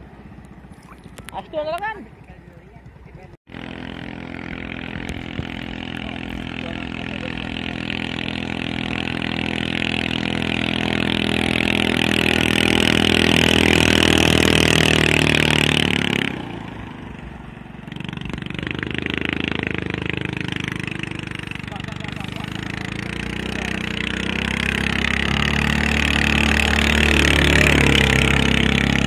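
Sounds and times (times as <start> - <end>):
quieter engine: 0.0 - 29.0
racing boat engine at speed: 0.0 - 29.0.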